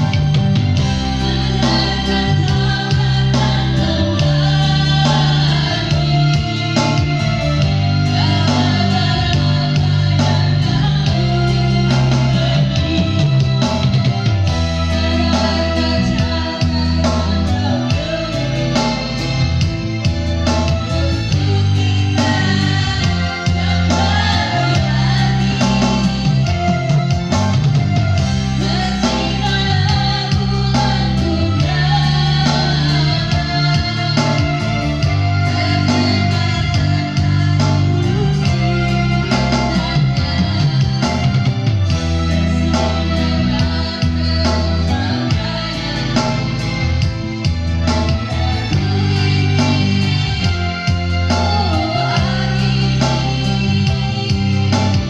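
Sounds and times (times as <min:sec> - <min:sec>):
guitar and bass: 0:00.0 - 0:55.0
person singing: 0:00.0 - 0:55.0.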